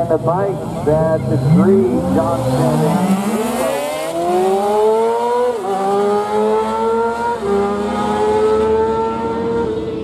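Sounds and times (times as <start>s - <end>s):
motorcycle engines at full throttle: 0.0s - 10.0s.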